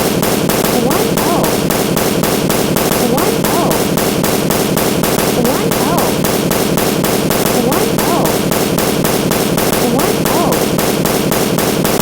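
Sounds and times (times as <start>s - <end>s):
fast even pulses: 0.0s - 12.0s.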